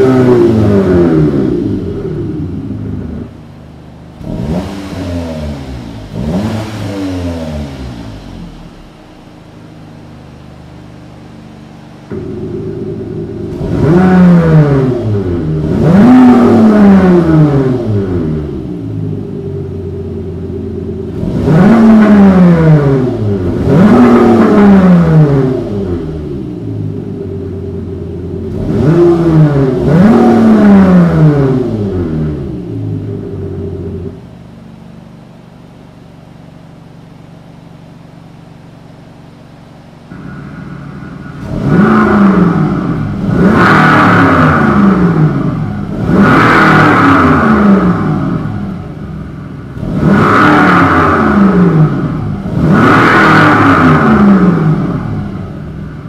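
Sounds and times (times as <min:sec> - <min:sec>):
car engine revving: 0:00.0 - 0:34.4, 0:35.0 - 0:56.0
car engine idling: 0:00.0 - 0:56.0.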